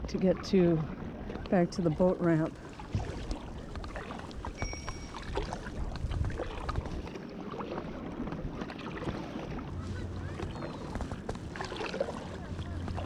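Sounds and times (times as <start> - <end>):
paddle splashing in water: 0.0 - 13.0
wind rumble on microphone: 0.0 - 13.0.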